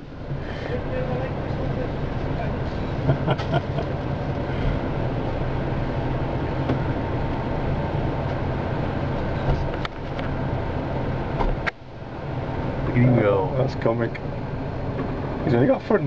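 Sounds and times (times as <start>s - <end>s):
engine idling in cab: 0.0s - 16.0s.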